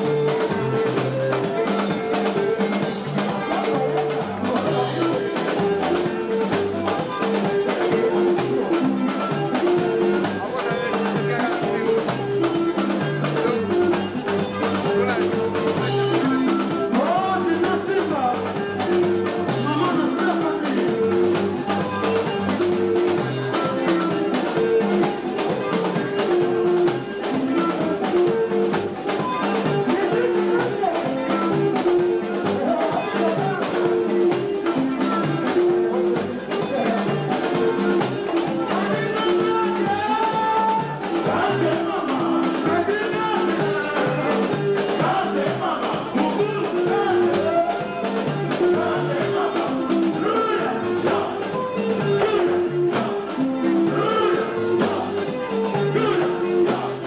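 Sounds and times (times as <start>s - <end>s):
live rumba band playing: 0.0s - 57.0s
person singing: 0.0s - 57.0s.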